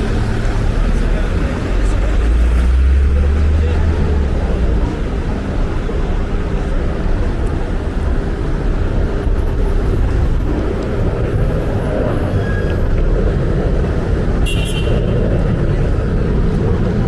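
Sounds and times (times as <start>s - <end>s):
cars driving by: 0.0s - 17.0s.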